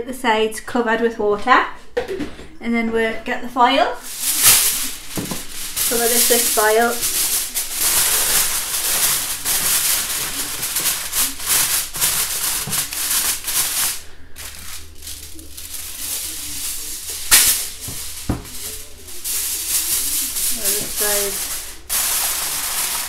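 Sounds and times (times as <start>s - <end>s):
aluminium foil crinkling: 4.0s - 23.0s
sharp foil crackle: 4.0s - 23.0s.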